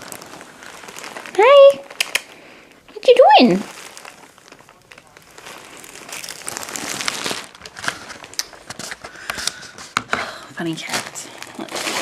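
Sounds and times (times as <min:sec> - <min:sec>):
shopping bag rustling: 0:00.0 - 0:10.0, 0:10.6 - 0:12.0.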